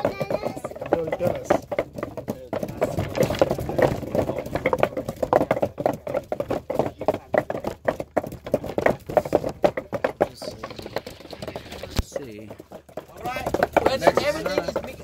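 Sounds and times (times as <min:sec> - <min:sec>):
wooden pestle pounding in mortar: 0:00.0 - 0:15.0.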